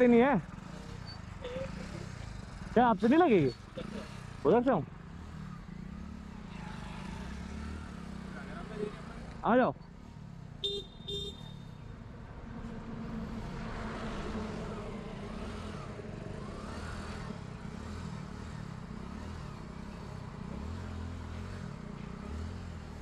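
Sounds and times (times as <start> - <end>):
motorbike engine: 0.0 - 23.0
passing traffic: 0.0 - 23.0.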